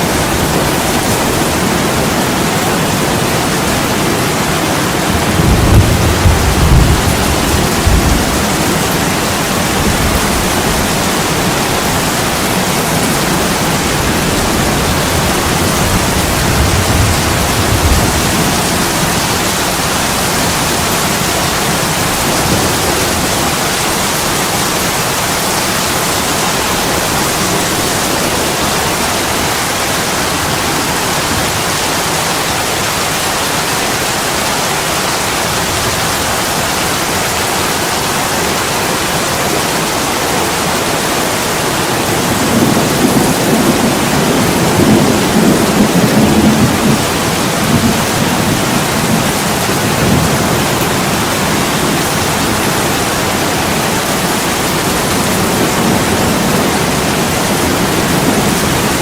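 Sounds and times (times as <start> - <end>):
heavy rain on a window: 0.0 - 59.0.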